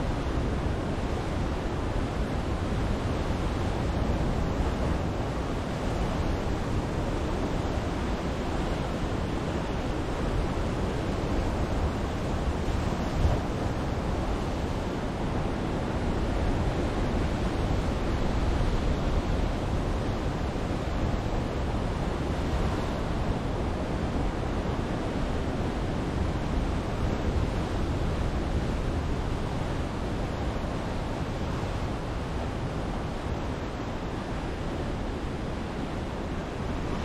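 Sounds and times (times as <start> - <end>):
ocean surf on rocks: 0.0 - 37.0
wind rumble on microphone: 0.0 - 37.0.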